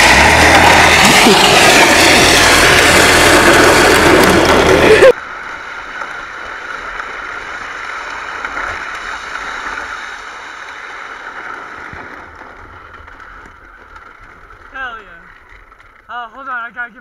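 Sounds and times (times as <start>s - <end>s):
plastic wheels rolling on asphalt: 0.0s - 17.0s.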